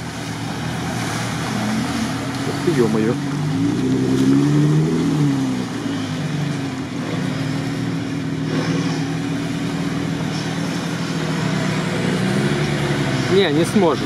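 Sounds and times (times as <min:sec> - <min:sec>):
truck engine pulling under load: 0:00.0 - 0:14.0.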